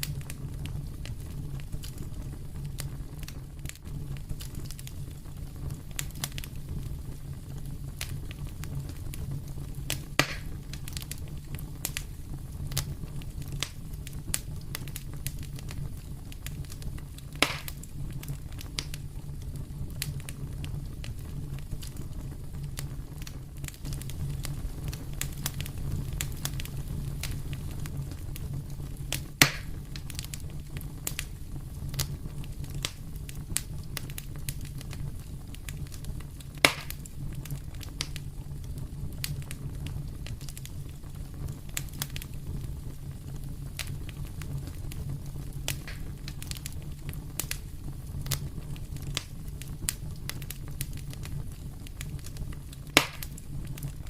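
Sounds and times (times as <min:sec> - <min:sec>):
loud fire pops: 0:00.0 - 0:54.0
wood fire crackling: 0:00.0 - 0:54.0.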